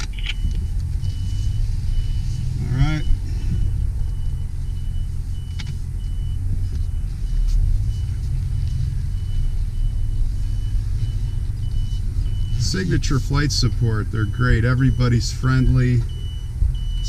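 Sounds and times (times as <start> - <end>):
pickup truck engine rumble: 0.0 - 17.0.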